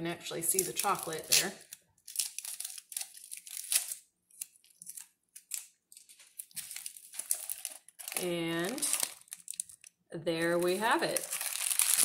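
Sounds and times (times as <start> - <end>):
foil wrapping crinkling and tearing: 0.5 - 12.0.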